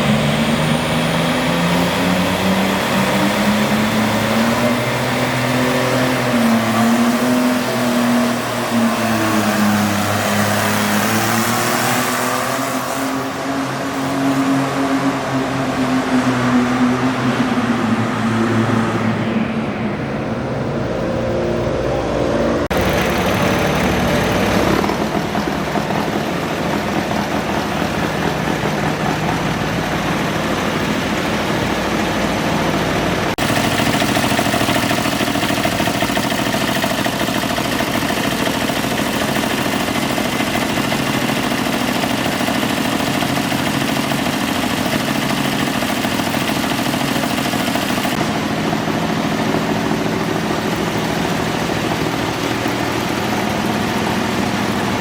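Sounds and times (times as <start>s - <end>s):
garden tractor engine roaring: 0.0s - 55.0s.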